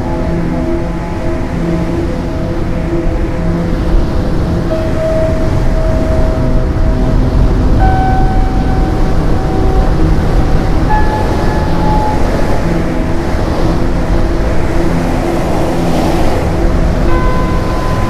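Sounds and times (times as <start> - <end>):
slow held-note music: 0.0 - 18.0
wind rumbling on microphone: 0.0 - 18.0.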